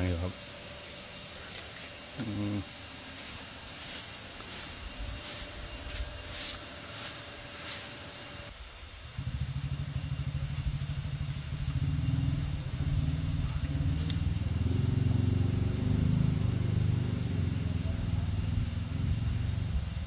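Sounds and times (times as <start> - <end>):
vehicle engine running: 3.1 - 20.0.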